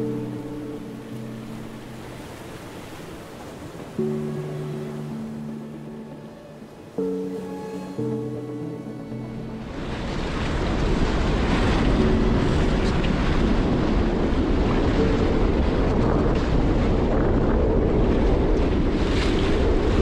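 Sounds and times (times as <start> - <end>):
sea rushing along hull: 0.0 - 20.0
wind buffeting microphone: 0.0 - 20.0.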